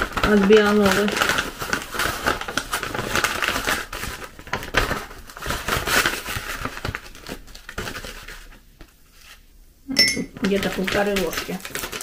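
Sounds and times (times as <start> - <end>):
packet crinkling and rustling: 0.0 - 9.5, 10.3 - 12.0.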